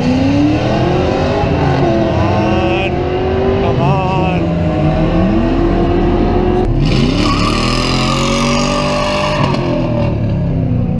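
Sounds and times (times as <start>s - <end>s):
race car engine accelerating: 0.0s - 10.7s.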